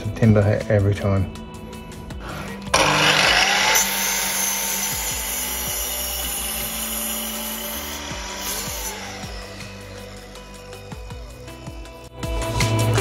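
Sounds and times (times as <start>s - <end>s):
mitre saw cutting timber: 2.4s - 13.0s.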